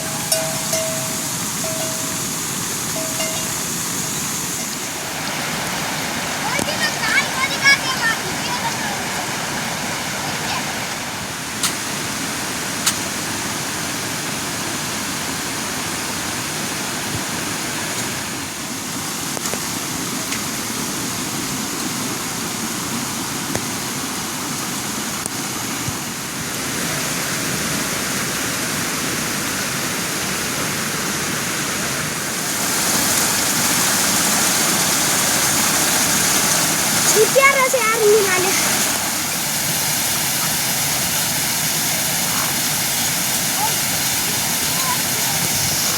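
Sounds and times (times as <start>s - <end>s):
rushing water: 0.0s - 45.9s.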